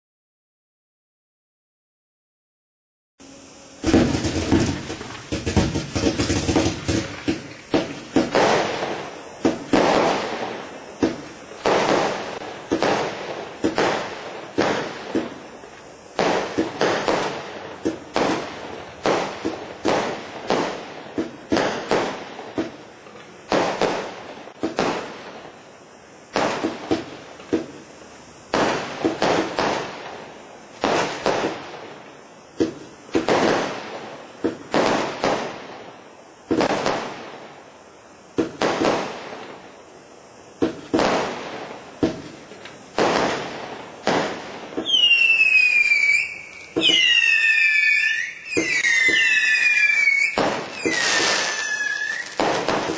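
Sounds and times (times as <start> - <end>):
falling firework whistles: 3.2 - 52.9
firework bangs: 3.7 - 52.9.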